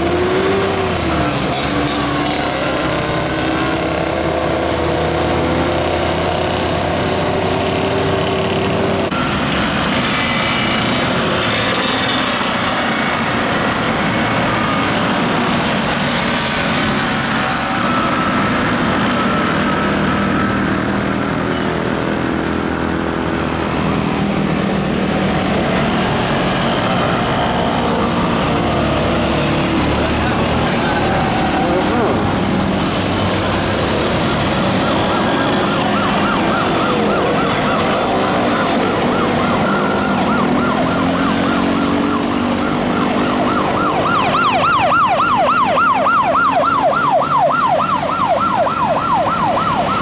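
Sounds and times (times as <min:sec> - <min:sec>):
bus engine pulling: 0:00.0 - 0:50.0
motorcycle and car engines: 0:00.0 - 0:50.0.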